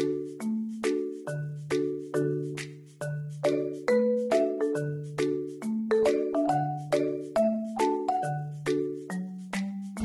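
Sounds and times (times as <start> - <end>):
light bouncy background music: 0.0 - 10.0.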